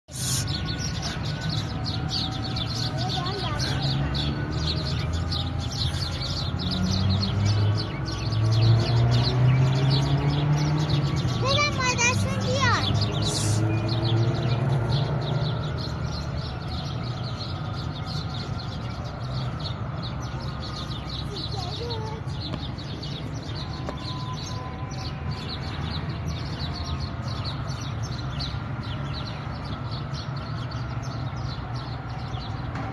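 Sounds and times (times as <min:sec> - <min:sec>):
small birds chirping: 0:00.1 - 0:32.9.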